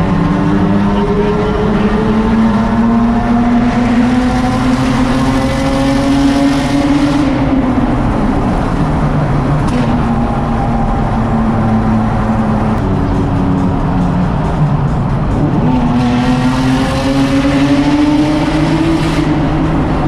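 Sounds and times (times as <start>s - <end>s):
car engine exhaust while driving: 0.0s - 20.0s.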